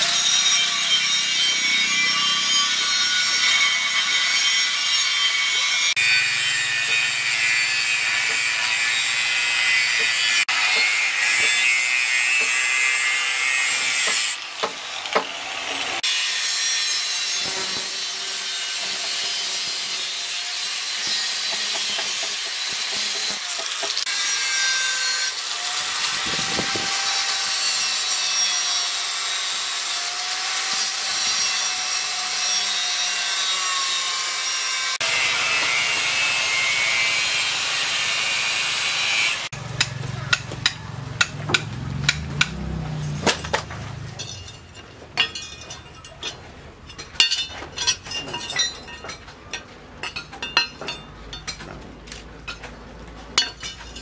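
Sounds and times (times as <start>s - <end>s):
angle grinder cutting steel: 0.0s - 51.6s, 53.4s - 54.0s.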